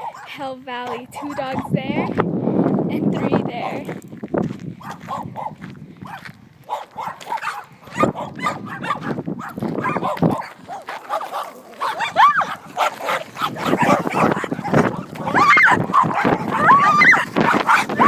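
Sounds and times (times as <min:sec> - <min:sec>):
dog yelping: 0:00.0 - 0:01.7, 0:04.8 - 0:18.0
small dogs barking and yapping: 0:00.0 - 0:02.1, 0:04.8 - 0:18.0.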